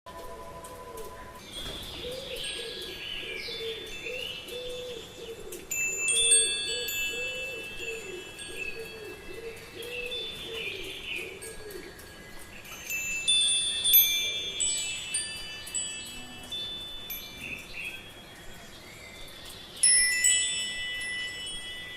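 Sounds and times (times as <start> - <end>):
wind chimes ringing: 0.1 - 21.9
bird calls: 0.2 - 21.7.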